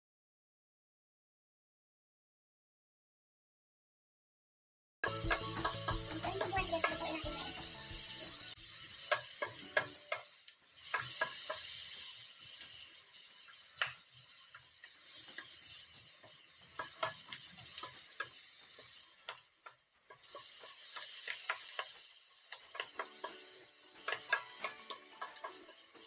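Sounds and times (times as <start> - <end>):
chicken sizzling in a frying pan: 5.0 - 26.0
spatula scraping a pan: 5.1 - 26.0.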